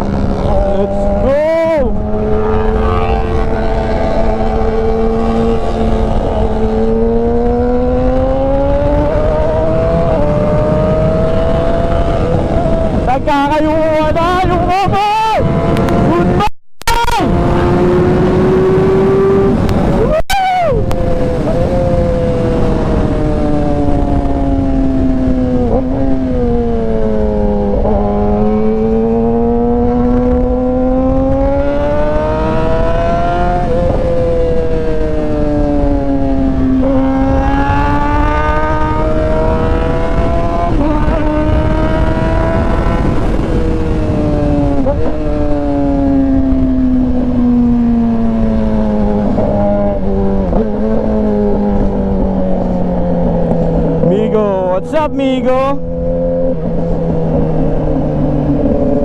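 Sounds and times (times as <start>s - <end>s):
motorcycle engine revving: 0.0s - 14.8s, 15.4s - 59.0s
wind and road noise: 0.0s - 59.0s.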